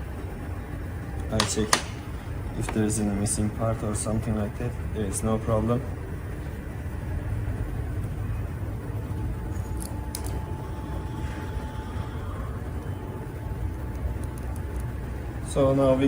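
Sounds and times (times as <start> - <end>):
workshop low rumble: 0.0 - 16.0.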